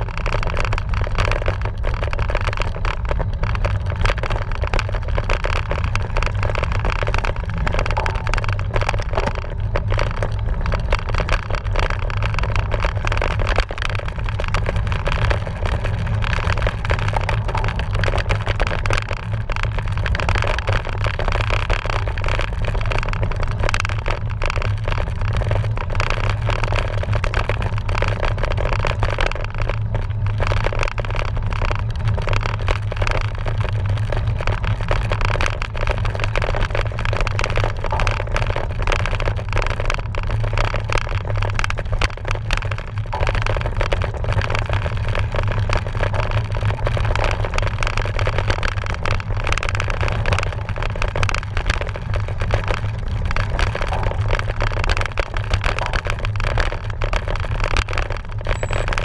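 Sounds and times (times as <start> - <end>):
bike and tyres rattling: 0.0 - 59.0
bike rumbling over rough ground: 0.0 - 59.0
wind on microphone: 0.0 - 59.0.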